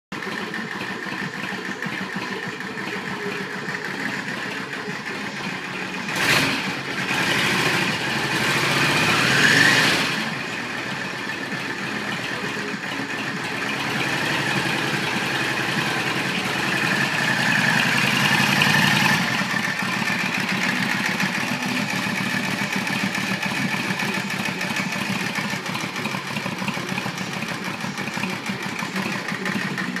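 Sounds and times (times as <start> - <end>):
motorcycle engine idling and revving: 0.1 - 30.0.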